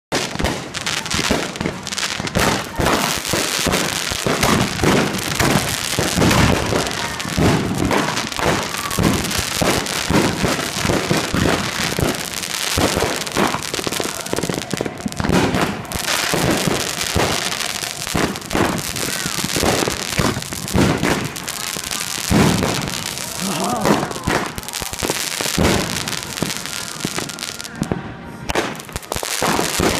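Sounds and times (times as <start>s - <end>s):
fireworks bangs: 0.1s - 29.9s
fireworks crackling: 0.1s - 29.9s.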